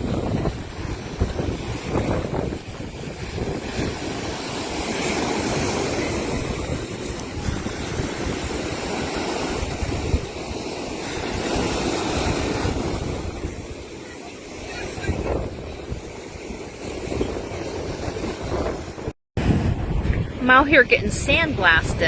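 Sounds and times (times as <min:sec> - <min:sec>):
ocean surf on beach: 0:00.0 - 0:22.0
wind buffeting microphone: 0:00.0 - 0:22.0.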